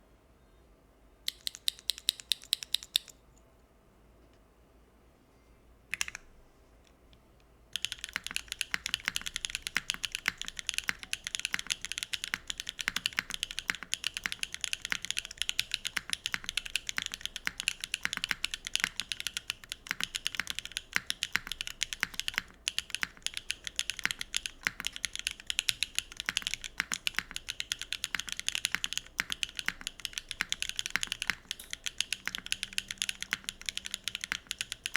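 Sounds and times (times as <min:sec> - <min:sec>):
mechanical keyboard typing: 0:01.3 - 0:03.1, 0:05.9 - 0:06.3, 0:07.8 - 0:34.9.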